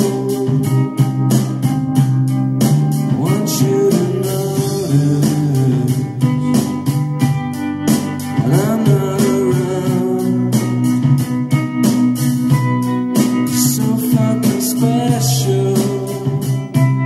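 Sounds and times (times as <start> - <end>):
guitar song with singing: 0.0 - 17.0.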